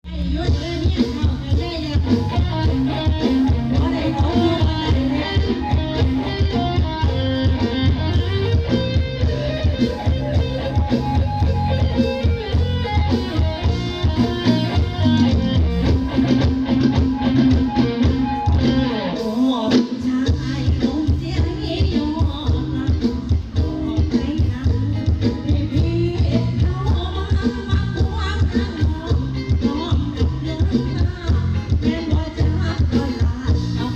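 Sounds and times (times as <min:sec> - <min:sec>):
plucked electric guitar melody: 0:00.0 - 0:33.9
drum and bass beat: 0:00.1 - 0:33.9.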